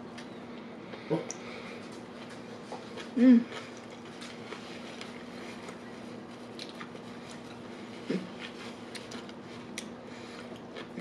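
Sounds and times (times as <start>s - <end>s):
faint steady hum: 0.0s - 11.0s
person chewing: 0.6s - 11.0s.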